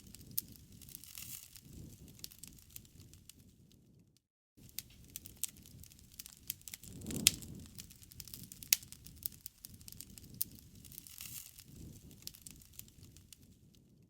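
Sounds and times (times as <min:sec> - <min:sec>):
campfire crackling and popping: 0:00.0 - 0:03.9, 0:04.6 - 0:14.0
low rumble of flames: 0:00.0 - 0:14.0.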